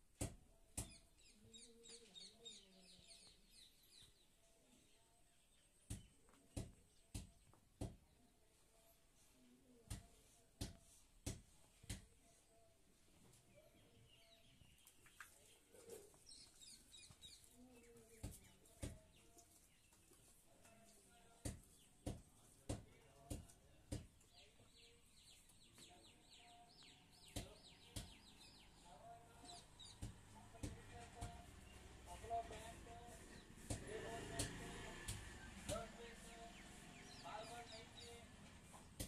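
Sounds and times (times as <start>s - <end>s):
faint bird chirping: 0.5s - 10.5s, 11.7s - 22.4s, 23.0s - 34.5s, 35.3s - 39.0s.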